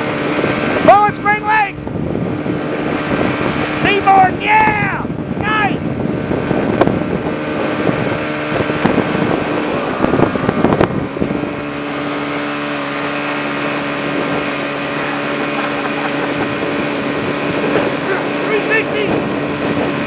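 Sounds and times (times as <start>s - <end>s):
motorboat engine running: 0.0s - 20.0s
rushing water: 0.0s - 20.0s
wind buffeting microphone: 0.0s - 20.0s.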